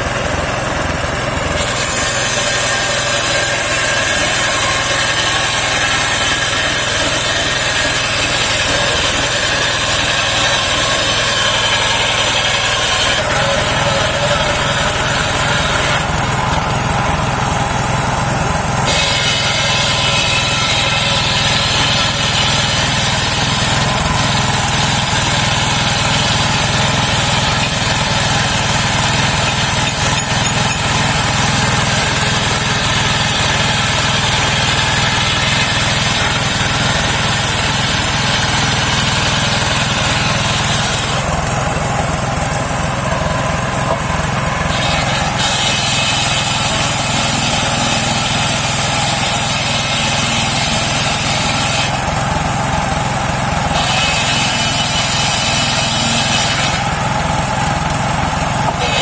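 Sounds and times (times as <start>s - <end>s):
circular sawmill engine running: 0.0s - 59.0s
saw blade whining through wood: 0.0s - 59.0s.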